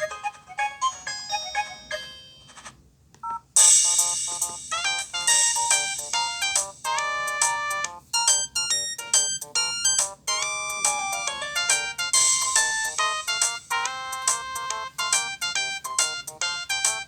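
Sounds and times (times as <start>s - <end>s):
phone ringtone melody: 0.0s - 2.7s, 3.3s - 17.0s.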